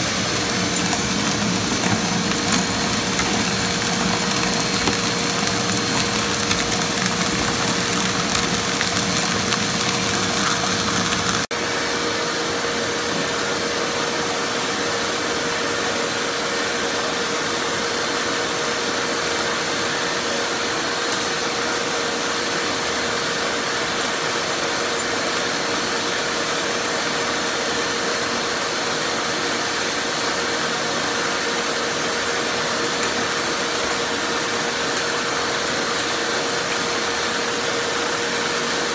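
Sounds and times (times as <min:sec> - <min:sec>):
shop vac whining: 0:00.0 - 0:38.9.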